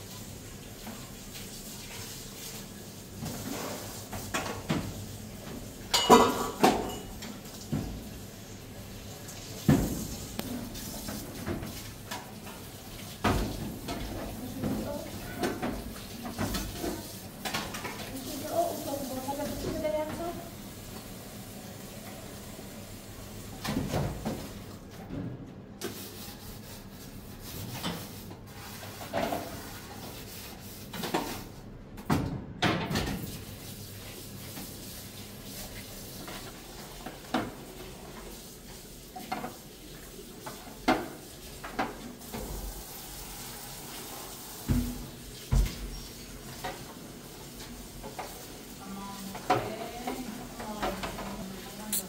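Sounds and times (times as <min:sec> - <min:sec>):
frying sizzle: 0:00.0 - 0:24.9, 0:33.1 - 0:52.0.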